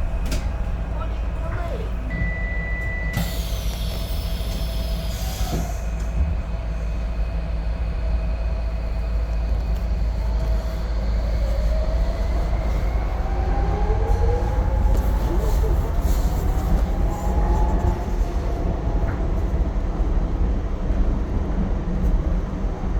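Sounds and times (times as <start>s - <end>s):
train rumble: 0.0s - 22.9s.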